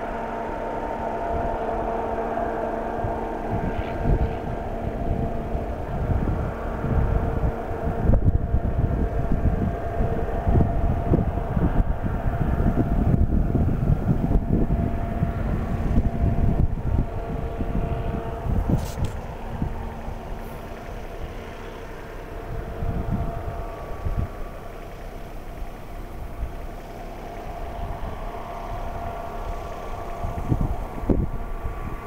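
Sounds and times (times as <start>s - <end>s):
engine humming: 0.0s - 32.0s
wind buffeting microphone: 0.0s - 32.0s.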